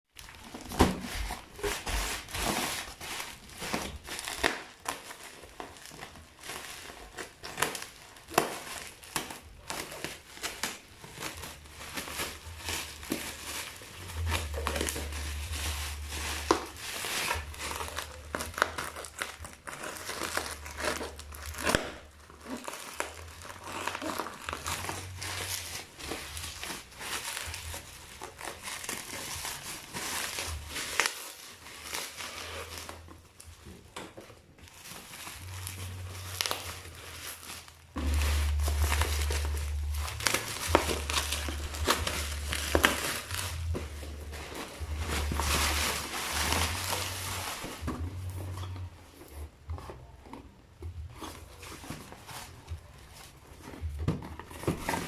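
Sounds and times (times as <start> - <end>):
packaging crinkling and rustling: 0.2 - 55.0.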